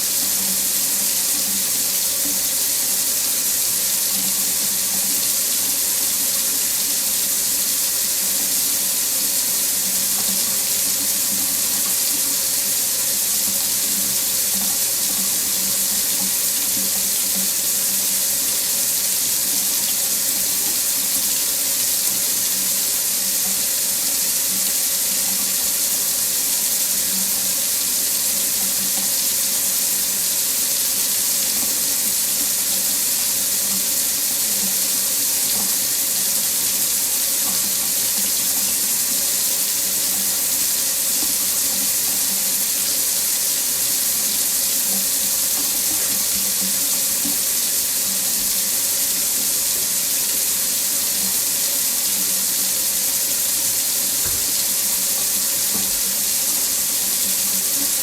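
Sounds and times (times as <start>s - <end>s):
faucet water running into sink: 0.0s - 58.0s.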